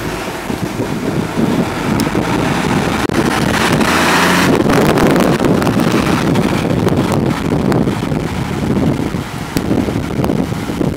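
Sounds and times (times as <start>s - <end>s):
fire engine driving past: 0.0s - 10.9s
wind buffeting microphone: 0.0s - 10.9s.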